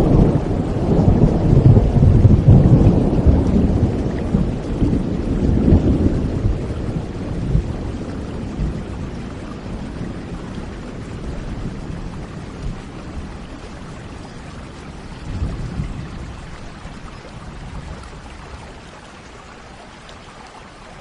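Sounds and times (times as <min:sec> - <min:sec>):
rolling thunder: 0:00.0 - 0:18.7
steady rain: 0:00.0 - 0:21.0.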